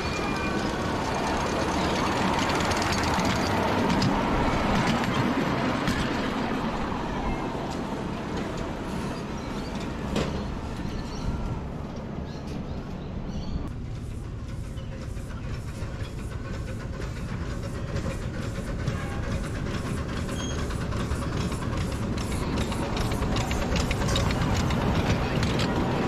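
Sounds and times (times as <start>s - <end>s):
miniature steam locomotive passing: 0.0s - 26.0s.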